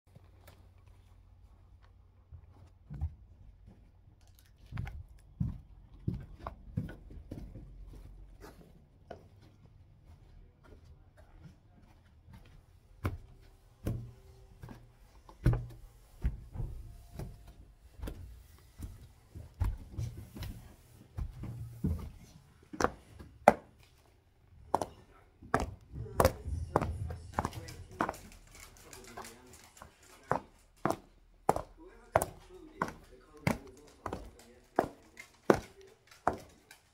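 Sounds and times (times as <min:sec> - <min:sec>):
high-heeled footsteps on carpet: 0:04.7 - 0:36.9.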